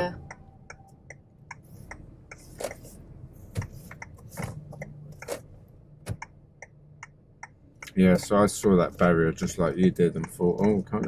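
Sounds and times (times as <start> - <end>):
turn indicator ticking: 0.0 - 2.5, 3.1 - 5.3, 6.0 - 11.0.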